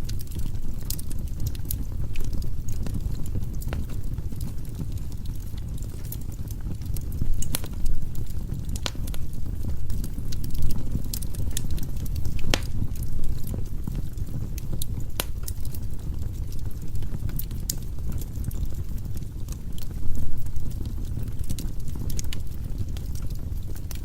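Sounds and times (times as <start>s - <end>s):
fireplace flames rumbling: 0.0s - 24.0s
firewood crackling and popping: 0.0s - 24.0s.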